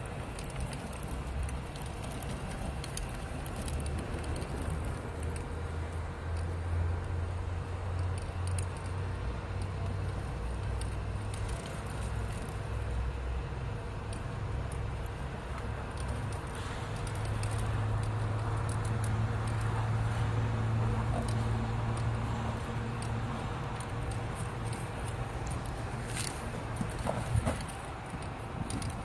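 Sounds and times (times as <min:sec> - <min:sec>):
light rattles and clicks: 0:00.0 - 0:07.2, 0:07.8 - 0:13.2, 0:14.0 - 0:29.0.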